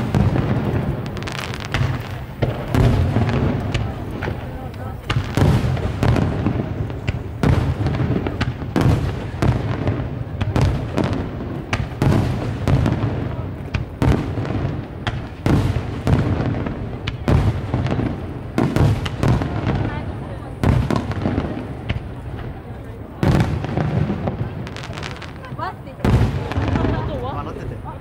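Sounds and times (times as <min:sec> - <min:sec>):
fireworks bursting with sharp bangs: 0:00.0 - 0:28.0.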